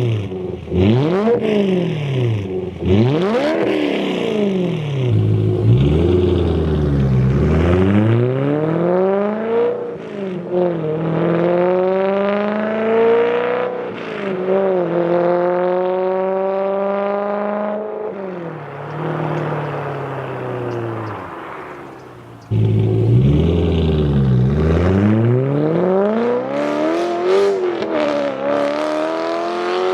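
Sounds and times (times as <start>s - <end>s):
car engine accelerating hard: 0.0s - 29.9s.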